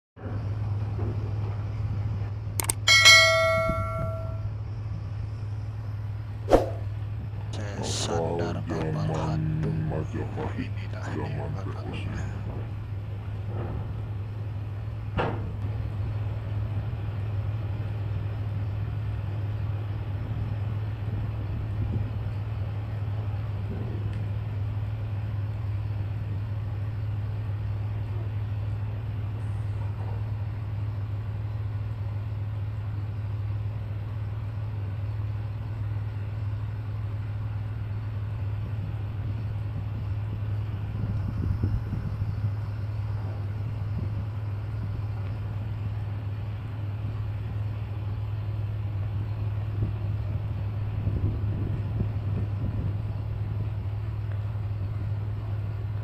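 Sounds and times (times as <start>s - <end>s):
ship diesel engine humming: 0.2s - 56.0s.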